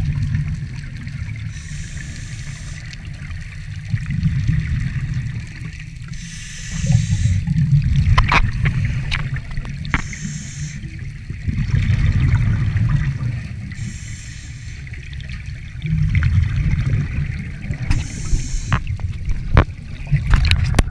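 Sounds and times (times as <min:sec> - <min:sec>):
underwater exhaust bubbles: 0:00.0 - 0:20.9.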